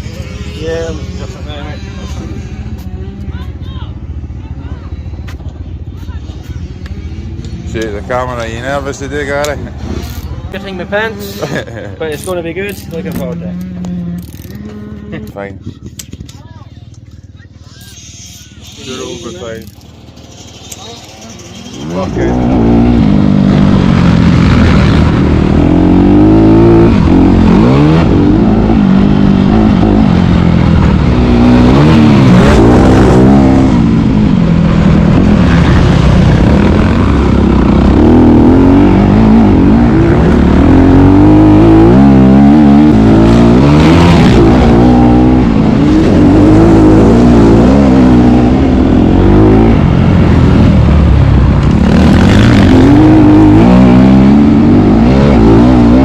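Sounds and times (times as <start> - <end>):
motocross bike engine revving: 0.0 - 5.2, 6.1 - 15.6, 17.2 - 56.0.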